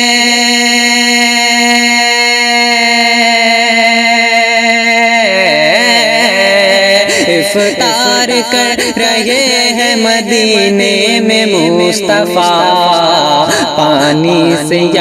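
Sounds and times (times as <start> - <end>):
man singing wordless melody: 0.0 - 15.0.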